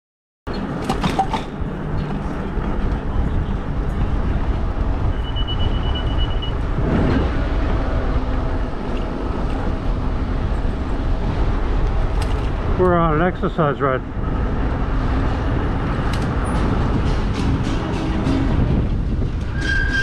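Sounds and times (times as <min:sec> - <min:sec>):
road and traffic rumble: 0:00.5 - 0:20.0.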